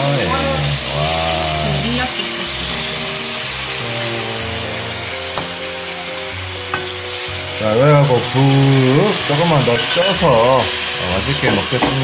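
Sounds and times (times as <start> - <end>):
background music: 0.0 - 12.0
fish sizzling in a pan: 0.0 - 12.0.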